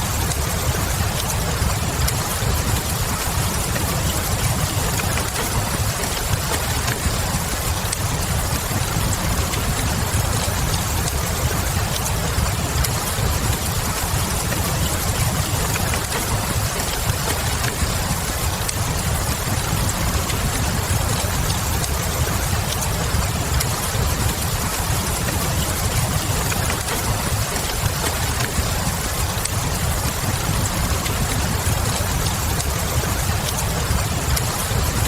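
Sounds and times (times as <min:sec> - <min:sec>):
rain falling: 0:00.0 - 0:35.0
wood fire crackling: 0:00.0 - 0:35.0.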